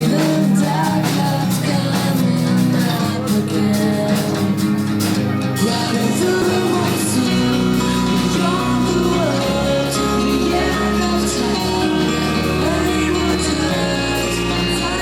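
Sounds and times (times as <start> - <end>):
song with a beat: 0.0 - 15.0.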